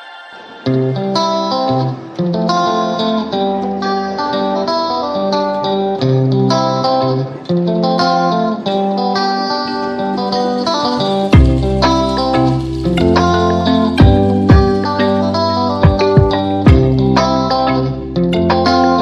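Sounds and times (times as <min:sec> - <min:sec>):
plucked guitar music: 0:00.3 - 0:19.0.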